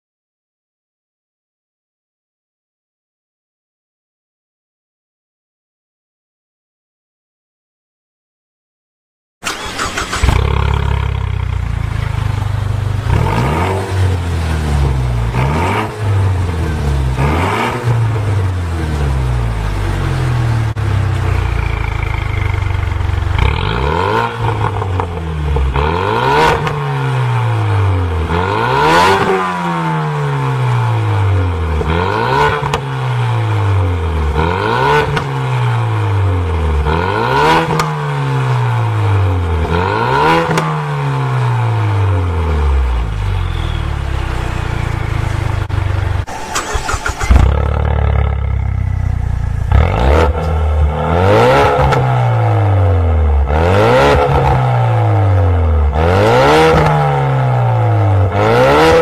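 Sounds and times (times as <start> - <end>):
car engine revving: 9.4 - 38.4, 39.0 - 59.0.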